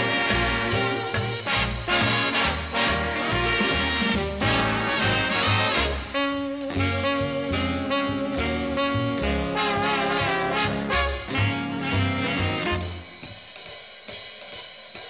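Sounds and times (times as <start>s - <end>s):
upbeat instrumental music: 0.0s - 15.0s.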